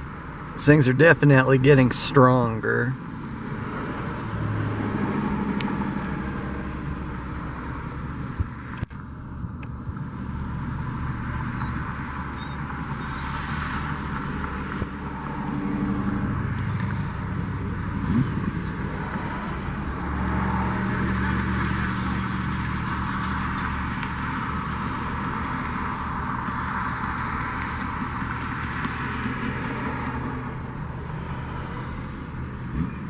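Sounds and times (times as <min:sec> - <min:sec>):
road noise: 0:00.0 - 0:33.0
vehicle engine hum: 0:00.0 - 0:33.0.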